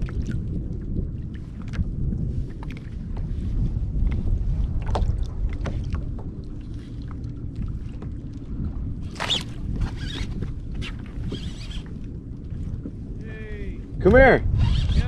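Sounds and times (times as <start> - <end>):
water slapping a kayak hull: 0.0 - 15.0
wind on microphone: 0.0 - 15.0.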